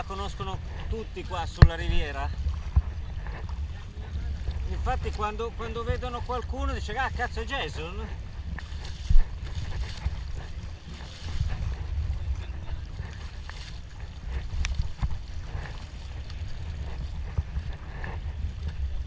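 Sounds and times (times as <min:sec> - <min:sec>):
paddling water splashes: 0:00.0 - 0:19.0
wind buffeting microphone: 0:00.0 - 0:19.0.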